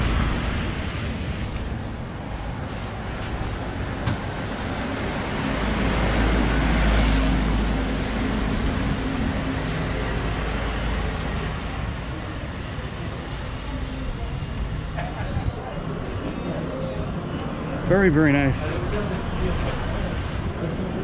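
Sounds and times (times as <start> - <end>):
steady traffic noise: 0.0 - 21.0.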